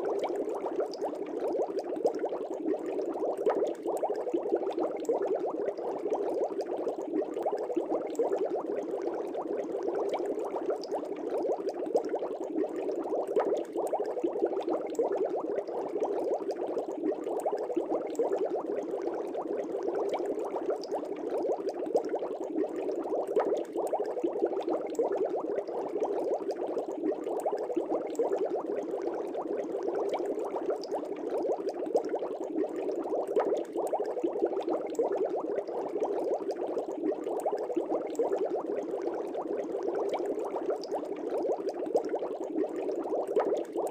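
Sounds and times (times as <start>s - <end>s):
aquarium air bubbles popping: 0.0s - 43.9s.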